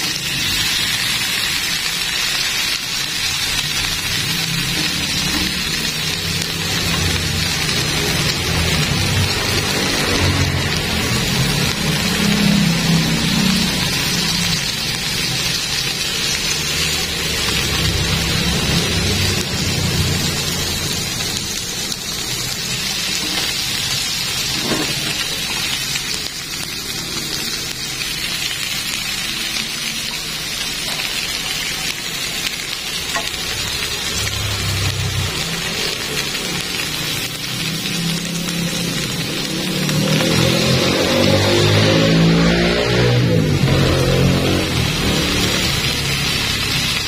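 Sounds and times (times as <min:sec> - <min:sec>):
food sizzling in a grill pan: 0:00.0 - 0:47.0.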